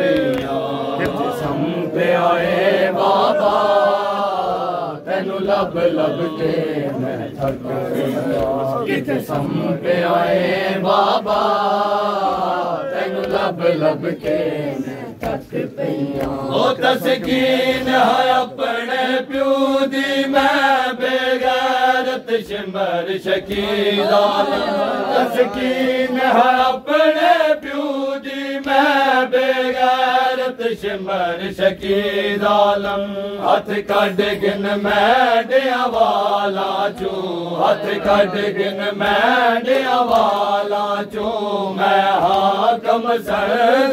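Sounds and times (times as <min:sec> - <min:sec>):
lead reciter chanting into microphone: 0:00.0 - 0:43.9
men singing along: 0:00.0 - 0:43.9.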